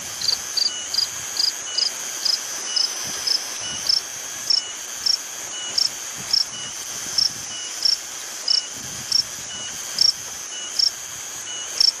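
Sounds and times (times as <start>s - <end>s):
insect buzzing and chirping: 0.0s - 12.0s.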